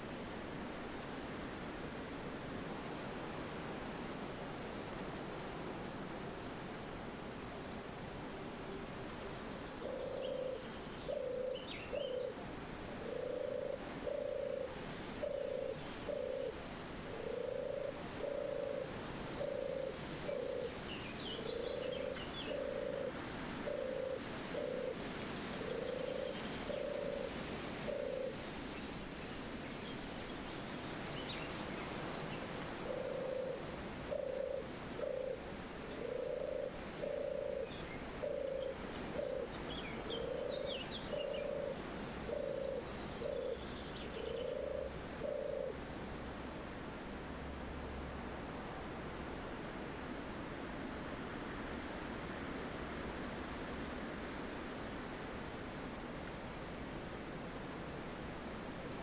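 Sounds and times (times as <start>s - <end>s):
forest wind: 0.0s - 59.0s.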